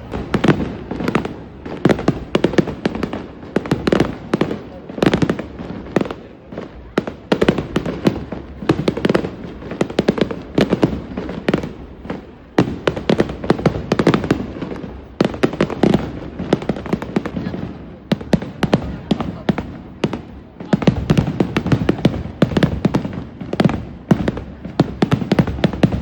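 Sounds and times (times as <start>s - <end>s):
fireworks booms: 0.0s - 26.0s
fireworks crackling pops: 0.0s - 26.0s.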